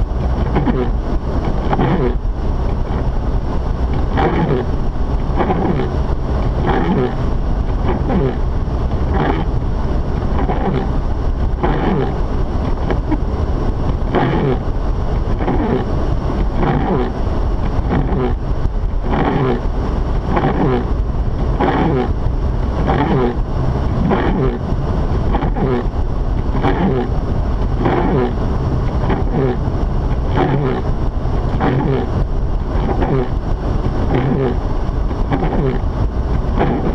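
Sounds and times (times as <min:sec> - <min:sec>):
car interior driving rumble: 0:00.0 - 0:36.9.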